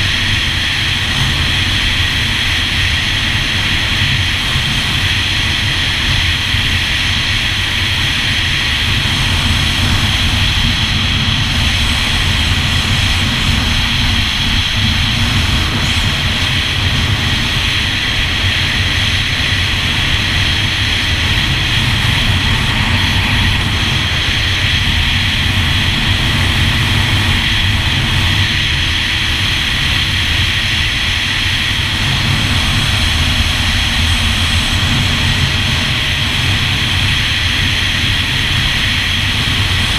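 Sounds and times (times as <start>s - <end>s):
personal watercraft engine droning: 0.0s - 39.9s.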